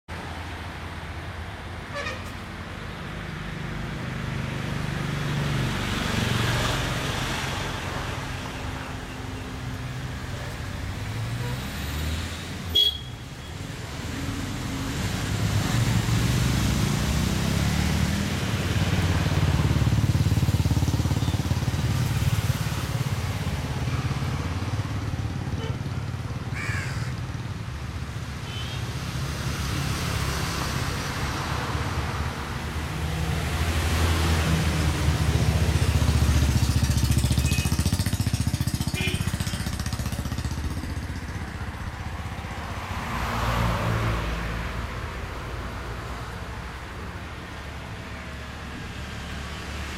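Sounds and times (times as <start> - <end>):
road traffic rumble: 0.1 - 49.9.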